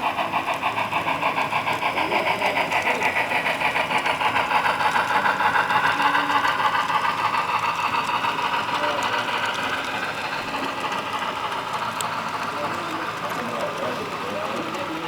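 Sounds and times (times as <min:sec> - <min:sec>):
model train clattering on track: 0:00.0 - 0:15.0
train motor whine: 0:00.0 - 0:15.0.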